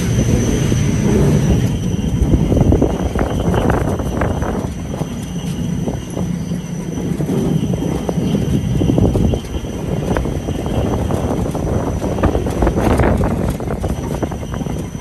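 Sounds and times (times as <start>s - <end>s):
coaster cart wheels rumbling: 0.0s - 15.0s.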